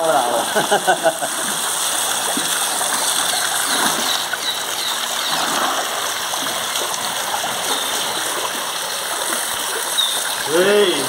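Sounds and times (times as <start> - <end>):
water jet rushing: 0.0 - 11.0
elephant splashing in water: 1.3 - 10.2.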